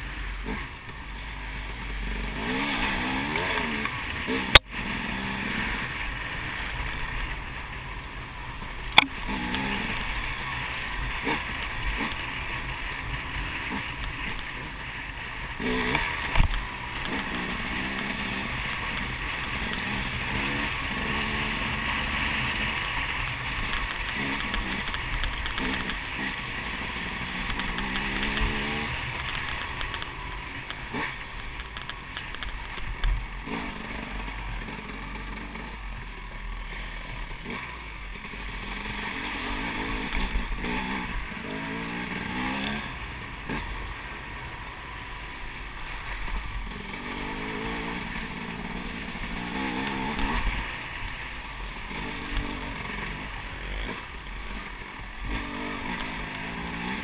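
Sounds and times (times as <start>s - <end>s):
dirt bike engine revving: 0.0s - 7.5s, 8.9s - 57.0s.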